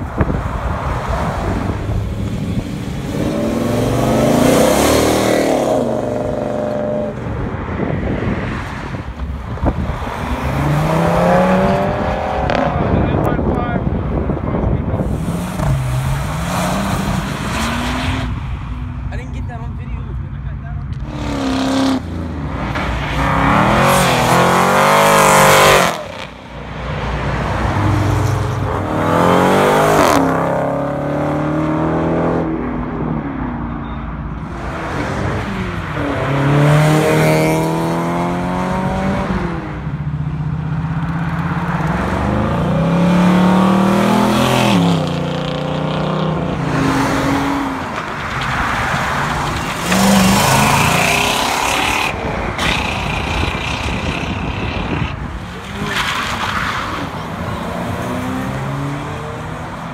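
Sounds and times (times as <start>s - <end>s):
cars accelerating past: 0.0s - 13.6s, 21.0s - 59.9s.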